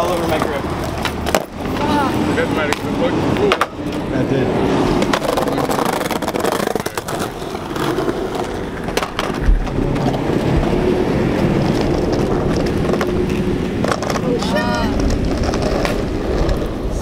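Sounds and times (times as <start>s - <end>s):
skateboard wheels rolling on asphalt: 0.0s - 17.0s.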